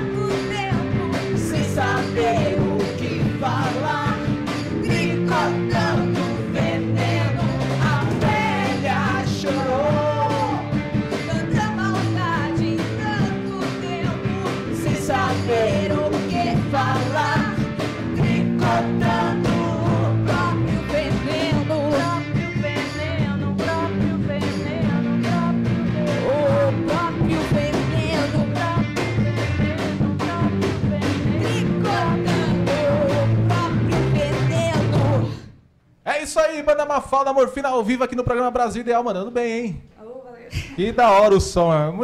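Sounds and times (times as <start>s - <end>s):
rock band playing live: 0.0s - 35.3s
drums beat: 0.0s - 35.4s.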